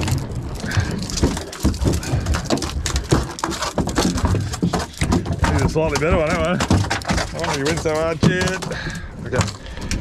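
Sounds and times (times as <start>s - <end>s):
fish thrashing on boat deck: 0.0s - 10.0s.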